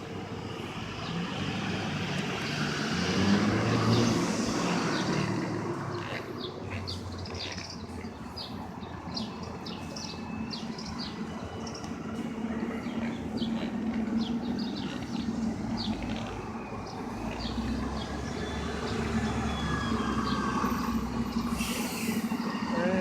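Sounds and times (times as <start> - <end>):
street traffic rumble: 0.0 - 23.0
vehicle engine hum: 0.0 - 23.0
small birds chirping: 3.8 - 23.0.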